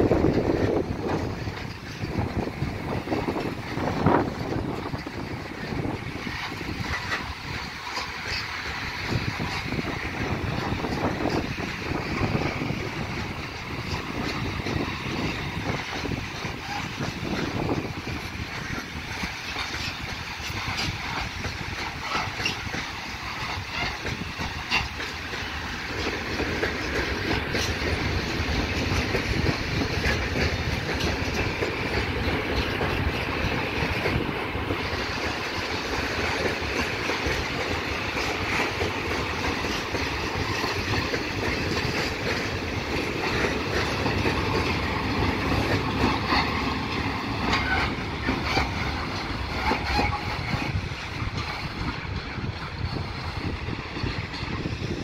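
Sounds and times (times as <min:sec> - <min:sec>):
steel wheels rumbling on rails: 0:00.0 - 0:55.0
wheels clattering over rail joints: 0:00.0 - 0:55.0.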